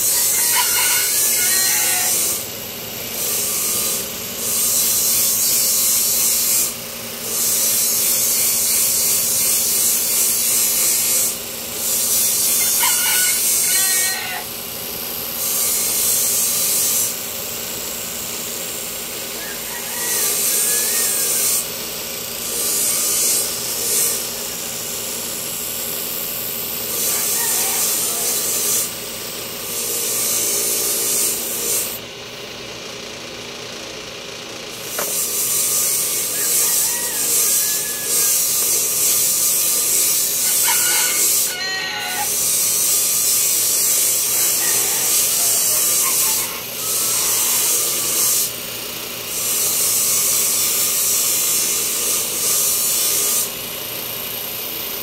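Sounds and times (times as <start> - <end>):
grinder scraping steel: 0.0 - 25.8, 26.7 - 32.1, 34.6 - 53.7.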